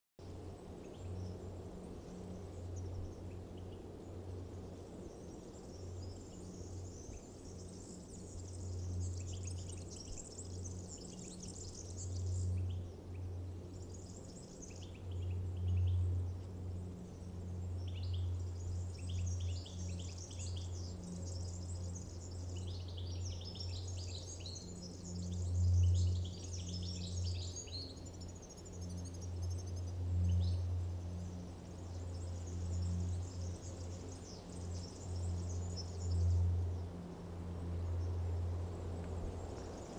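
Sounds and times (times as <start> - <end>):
birds chirping and trilling: 0.5 - 39.9.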